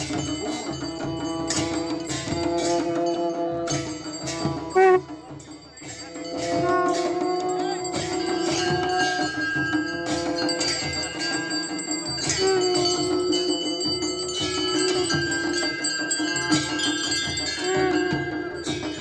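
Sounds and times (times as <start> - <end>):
ringing bells: 0.0 - 19.0
steady drumbeats: 0.0 - 19.0.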